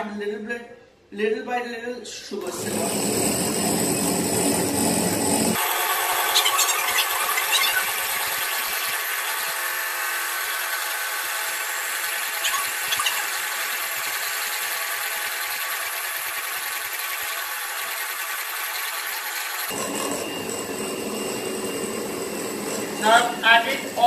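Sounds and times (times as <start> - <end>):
electric hand mixer whipping: 2.4 - 24.0.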